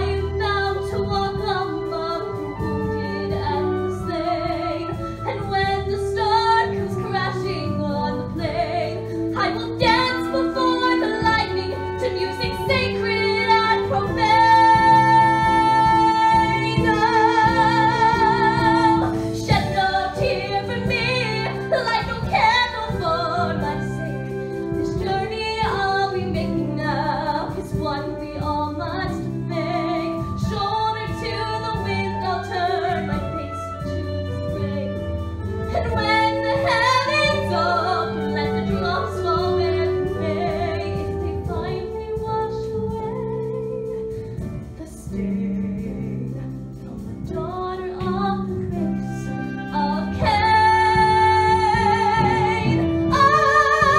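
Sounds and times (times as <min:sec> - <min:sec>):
instrumental accompaniment: 0:00.0 - 0:53.9
woman singing: 0:00.0 - 0:53.9.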